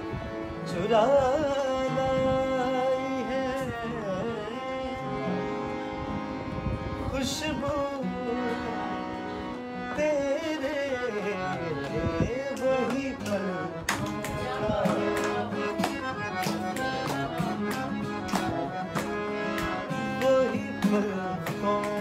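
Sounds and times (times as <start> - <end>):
harmonium chords: 0.0 - 22.0
man singing: 0.6 - 5.3, 7.0 - 8.8, 9.8 - 18.9, 19.8 - 22.0.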